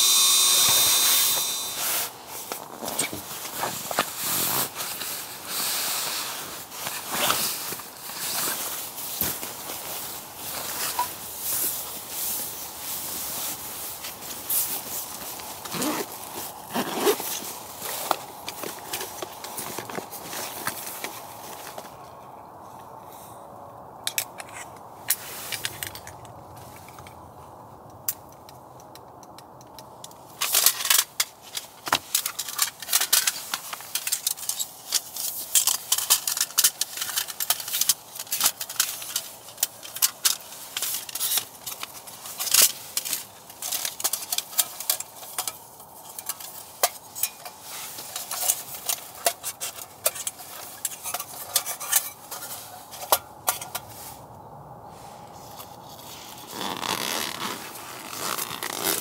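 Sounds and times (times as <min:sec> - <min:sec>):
steady low hiss: 0:00.0 - 0:59.0.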